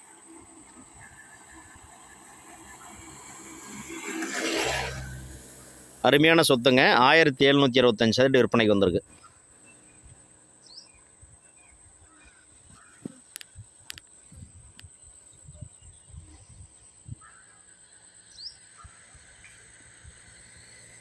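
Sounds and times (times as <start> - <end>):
rural outdoor ambience: 0.0 - 21.0.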